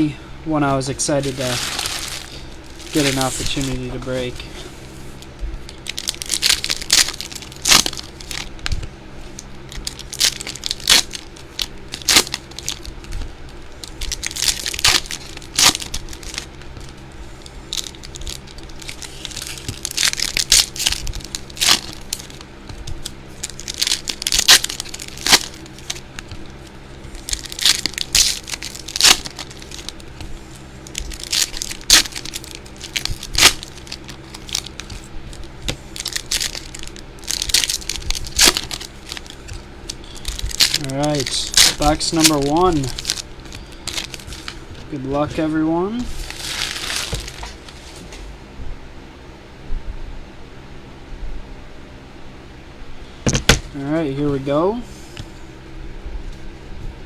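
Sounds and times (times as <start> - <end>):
plastic wrapping tearing and crinkling: 1.2 - 45.4, 46.0 - 48.1.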